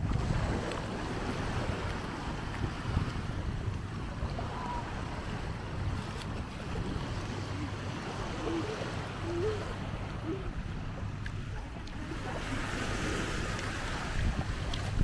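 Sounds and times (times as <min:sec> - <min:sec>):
small waves washing on shore: 0:00.0 - 0:15.0
wind buffeting microphone: 0:00.0 - 0:15.0.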